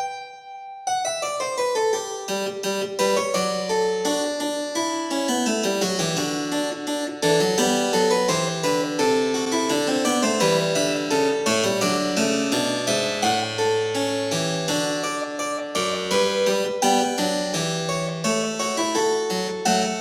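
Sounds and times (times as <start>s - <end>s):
harpsichord-like keyboard music: 0.0s - 20.0s.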